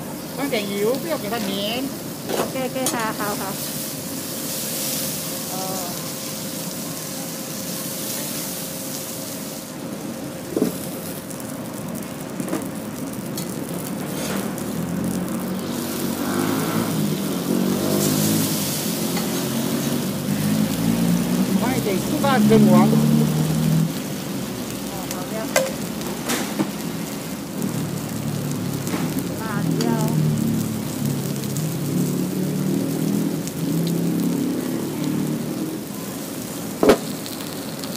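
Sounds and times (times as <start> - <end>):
fish sizzling on a griddle: 0.0 - 37.9.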